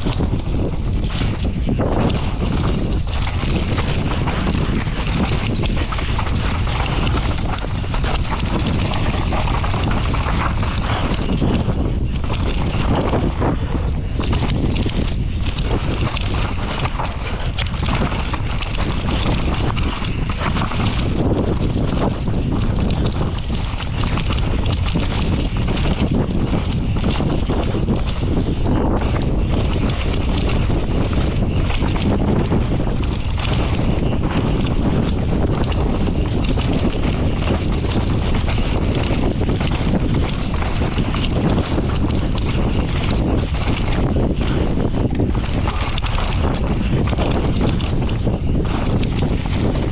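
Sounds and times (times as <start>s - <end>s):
bike chain and frame rattling: 0.0s - 49.9s
bike tyres clattering over rocks: 0.0s - 49.9s.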